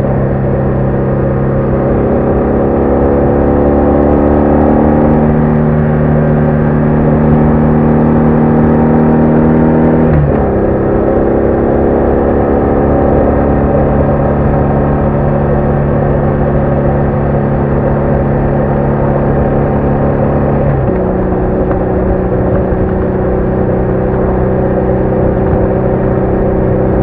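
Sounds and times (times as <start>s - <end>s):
motorcycle engine riding: 0.0s - 27.0s.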